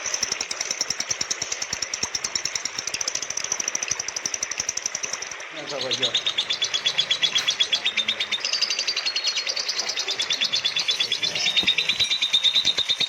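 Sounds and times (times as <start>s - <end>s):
bird chattering trill: 0.0s - 13.0s.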